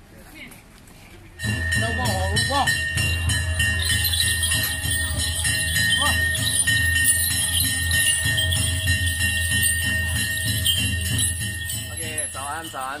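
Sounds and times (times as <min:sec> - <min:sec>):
small bells jingling: 0:01.4 - 0:13.0.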